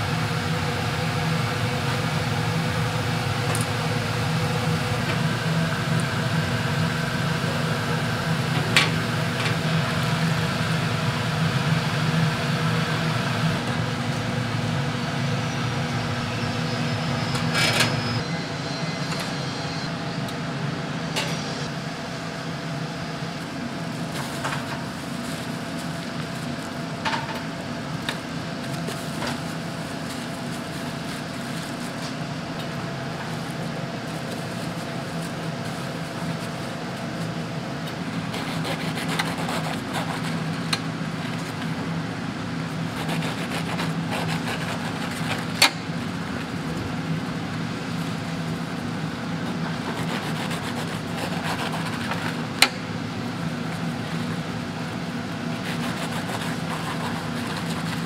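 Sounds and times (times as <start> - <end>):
kitchen machine hum: 0.0 - 58.0.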